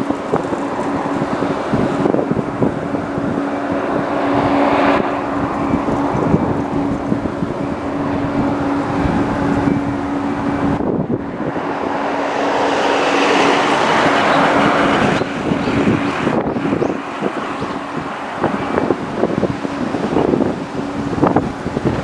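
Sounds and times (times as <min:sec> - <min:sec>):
airliner engines humming: 0:00.0 - 0:22.0
gusty wind buffeting microphone: 0:00.0 - 0:22.0.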